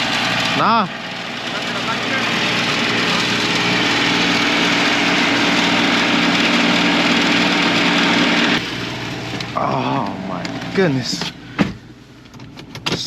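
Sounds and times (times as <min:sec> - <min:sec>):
small engine droning: 0:00.0 - 0:12.3.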